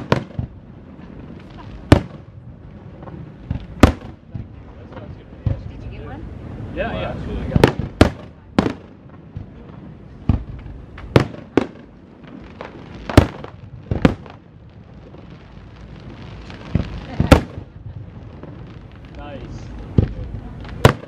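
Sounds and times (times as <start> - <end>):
firework shells bursting: 0.0 - 5.8, 7.4 - 21.0
low steady background hiss: 0.0 - 21.0.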